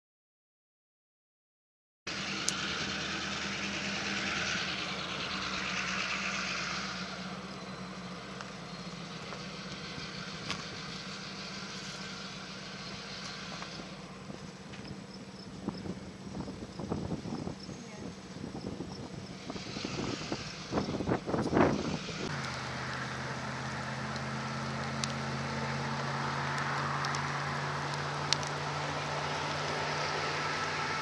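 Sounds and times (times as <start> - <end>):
engine idling hum: 2.1 - 31.0.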